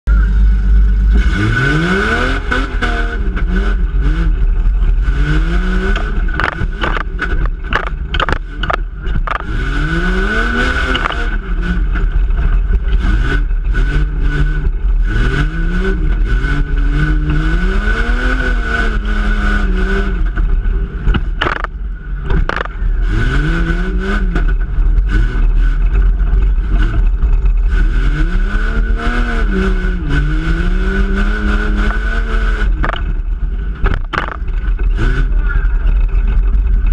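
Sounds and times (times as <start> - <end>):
truck engine revving: 0.1 - 36.9.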